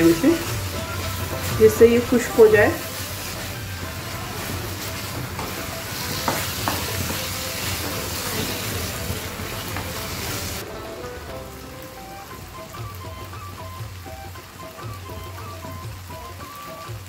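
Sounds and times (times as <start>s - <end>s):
meat sizzling in a pan: 0.0s - 10.7s, 11.3s - 17.0s.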